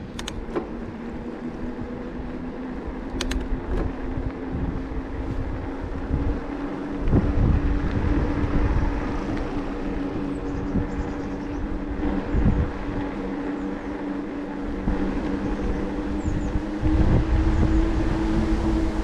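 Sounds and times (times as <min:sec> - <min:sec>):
electric motor whining: 0:00.0 - 0:19.0
wind buffeting microphone: 0:00.0 - 0:19.0.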